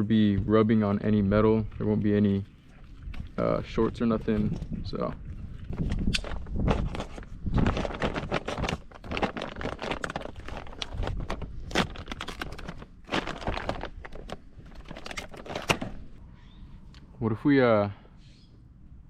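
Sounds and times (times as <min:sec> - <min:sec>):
crinkling and rustling: 0:00.8 - 0:16.2.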